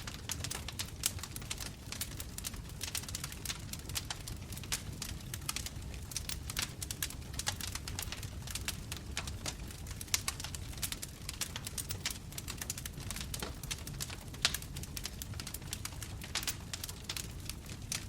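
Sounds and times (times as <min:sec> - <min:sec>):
bonfire crackling: 0:00.0 - 0:18.0
low rumble of flames: 0:00.0 - 0:18.0.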